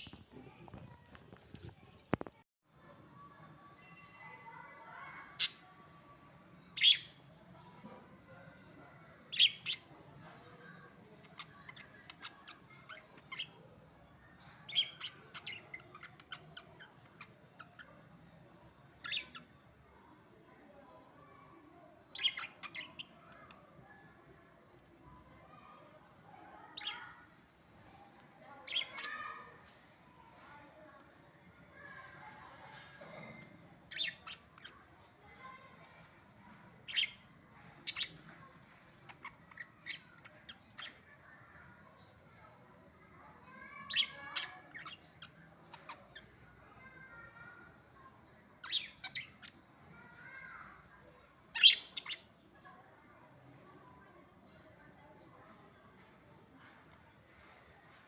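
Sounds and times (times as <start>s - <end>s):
soft bird chatter: 0.0s - 58.0s.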